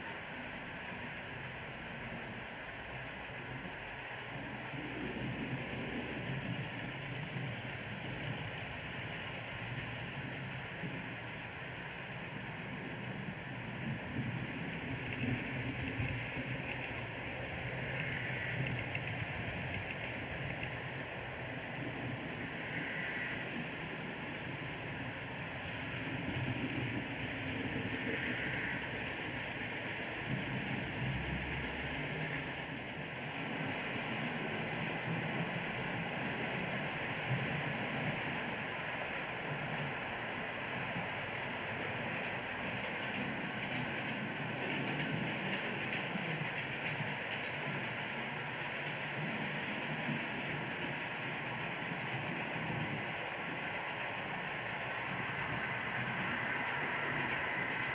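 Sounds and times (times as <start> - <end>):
model trains rumbling on track: 0.0 - 57.9.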